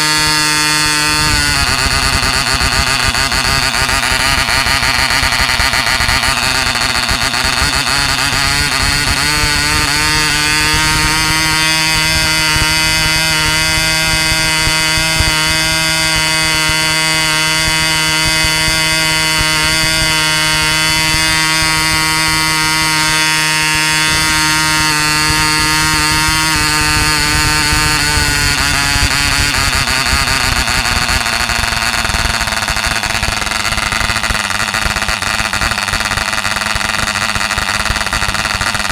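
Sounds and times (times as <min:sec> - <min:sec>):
model engine buzzing: 0:00.0 - 0:38.9.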